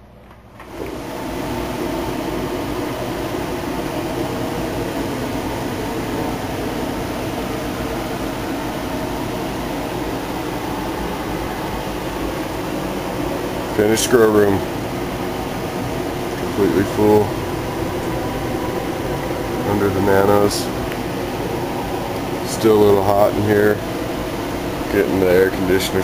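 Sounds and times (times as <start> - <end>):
electric fans whirring: 0.0 - 26.0.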